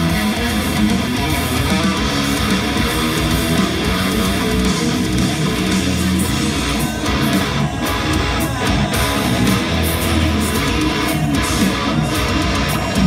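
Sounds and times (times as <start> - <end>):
electric guitar heavy metal riff: 0.0 - 13.0.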